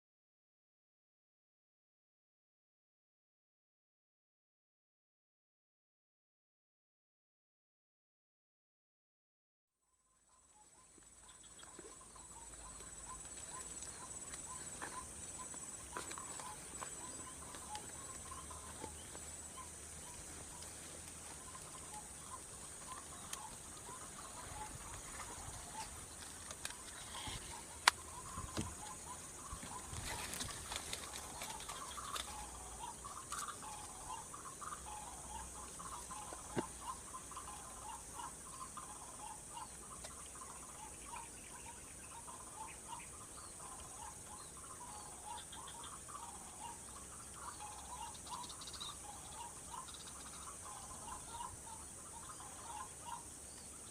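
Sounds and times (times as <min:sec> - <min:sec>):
waterhen calls: 0:10.3 - 0:53.9.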